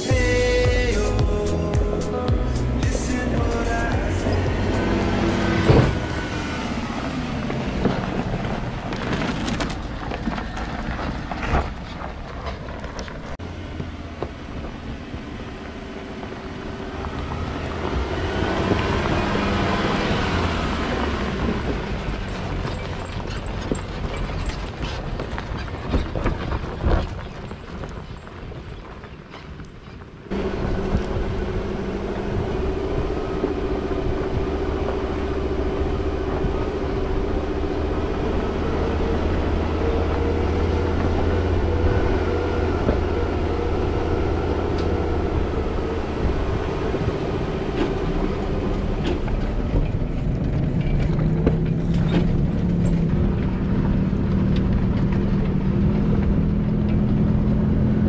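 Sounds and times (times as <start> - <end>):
knocks and rattles over bumps: 0.0 - 15.8, 16.9 - 58.0
off-road vehicle engine running: 0.0 - 58.0.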